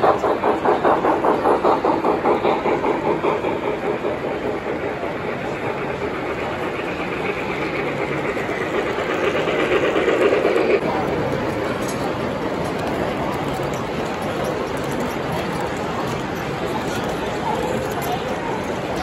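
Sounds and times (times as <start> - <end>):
model train wheels clattering: 0.0 - 19.0.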